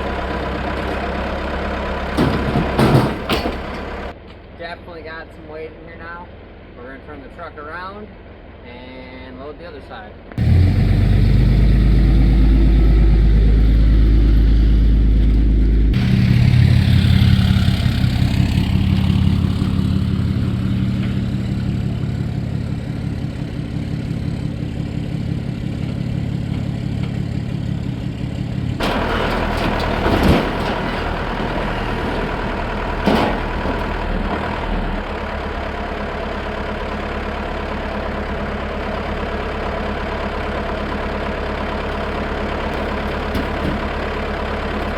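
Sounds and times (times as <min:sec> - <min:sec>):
diesel truck engine running: 0:00.0 - 0:04.2, 0:10.3 - 0:44.9.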